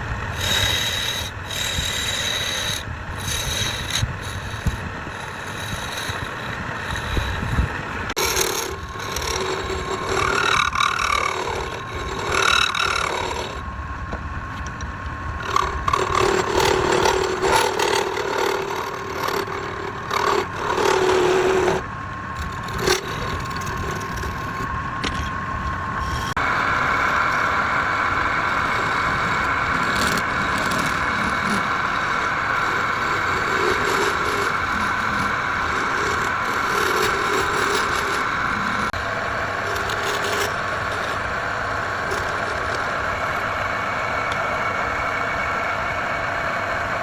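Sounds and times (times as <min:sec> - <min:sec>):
turning tool scraping wood: 0:00.0 - 0:13.7, 0:14.5 - 0:44.4
wood lathe running: 0:00.0 - 0:47.0.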